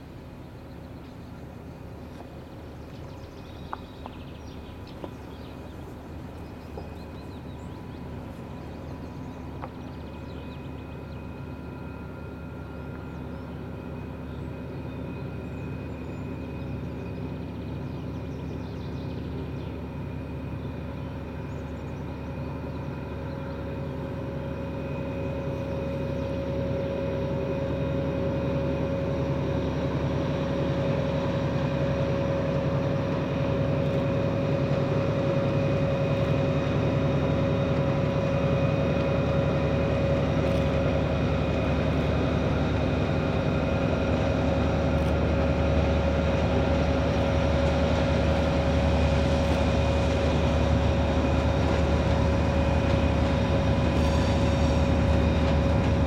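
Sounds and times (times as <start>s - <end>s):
diesel locomotive engine drone: 0.0s - 56.0s
locomotive whine: 0.0s - 56.0s.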